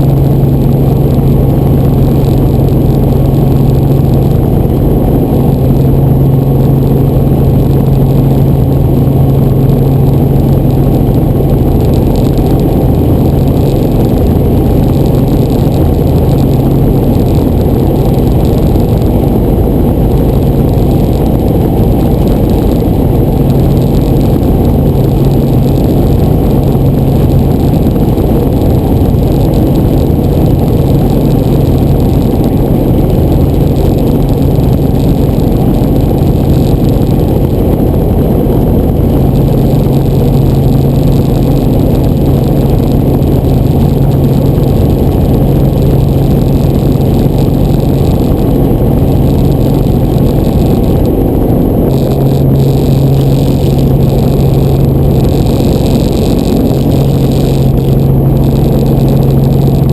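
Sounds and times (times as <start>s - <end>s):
helicopter engine and rotors: 0.0s - 59.9s
low hum: 0.0s - 59.9s.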